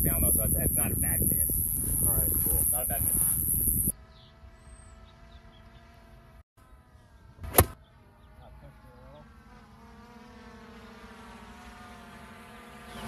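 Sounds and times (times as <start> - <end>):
buzzing motor hum with whine: 0.0 - 13.0.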